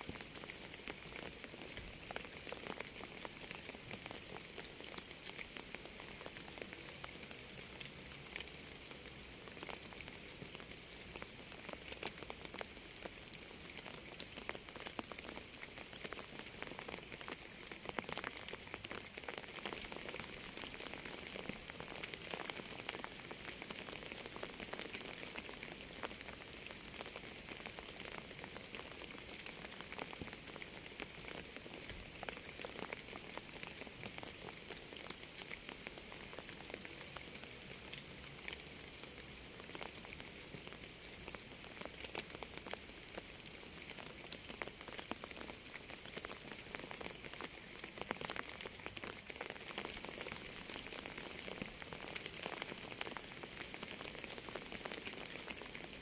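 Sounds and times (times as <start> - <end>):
steady rainfall: 0.0 - 56.0
raindrops ticking: 0.1 - 56.0.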